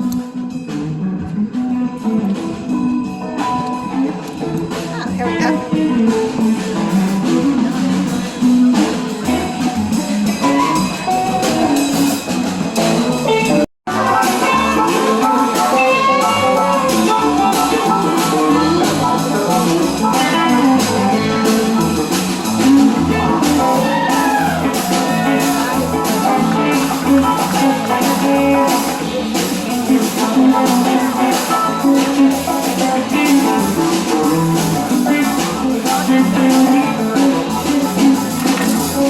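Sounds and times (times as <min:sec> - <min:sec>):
live band with guitar and drums: 0:00.0 - 0:39.0.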